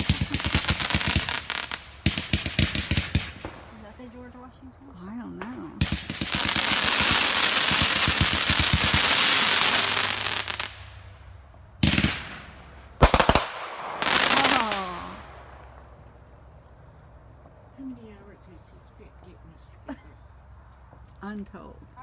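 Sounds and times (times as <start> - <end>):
firework bangs: 0.0 - 18.1
fireworks crackling: 0.0 - 19.4.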